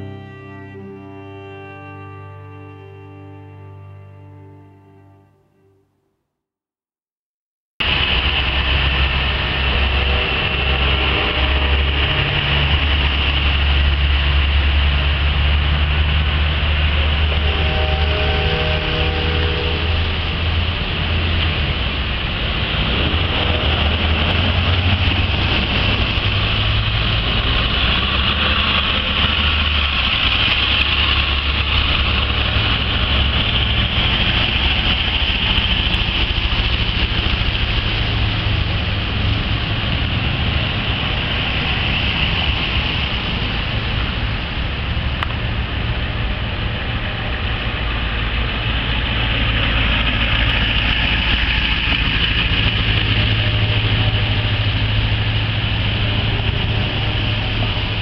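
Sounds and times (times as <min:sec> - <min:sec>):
vehicle engines rumbling past: 0:07.8 - 0:58.0.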